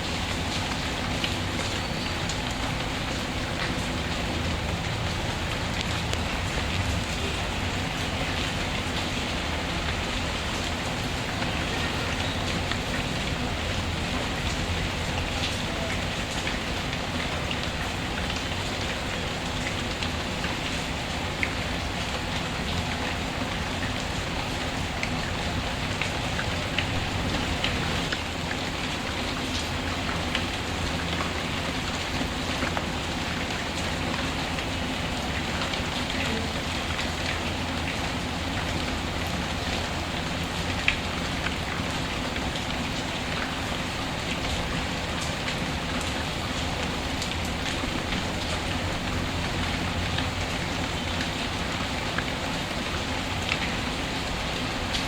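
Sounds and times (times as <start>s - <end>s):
rain falling on a surface: 0.0s - 55.0s.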